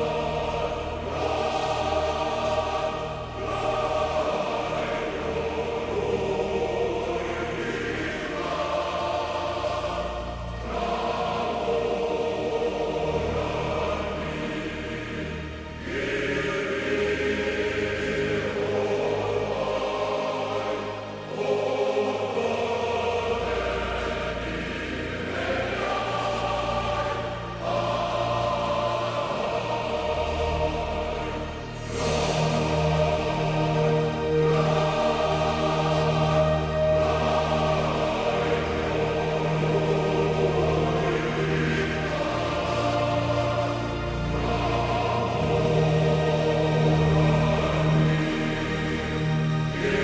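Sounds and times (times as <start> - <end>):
choir singing sustained chords: 0.0 - 50.0.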